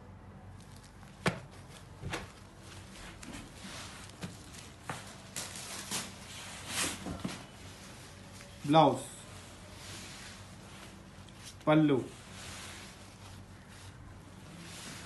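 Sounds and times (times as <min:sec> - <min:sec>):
steady low hum: 0:00.0 - 0:15.0
fabric rustling: 0:00.5 - 0:15.0.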